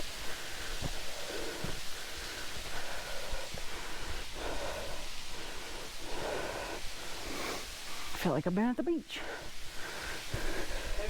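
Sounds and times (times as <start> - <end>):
person breathing heavily: 0.0 - 8.2, 9.2 - 11.0
steady rushing hiss: 0.0 - 11.0.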